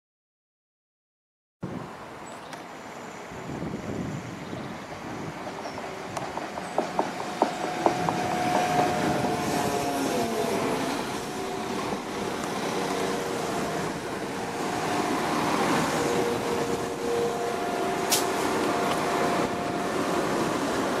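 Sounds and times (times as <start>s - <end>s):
train wheels rumbling on rails: 3.8s - 21.0s.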